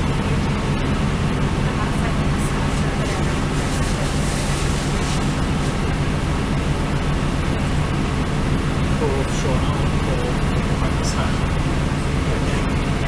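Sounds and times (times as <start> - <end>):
diesel train running: 0.0 - 13.0.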